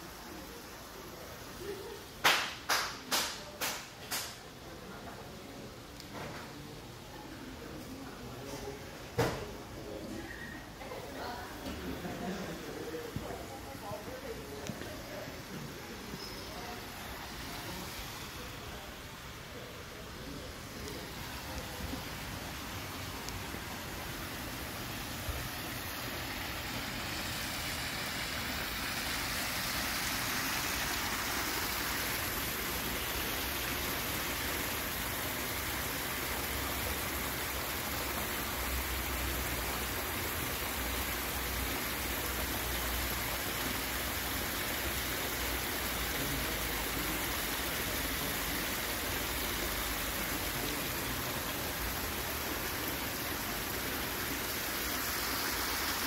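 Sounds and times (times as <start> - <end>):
water rushing down cascade: 0.0 - 56.0.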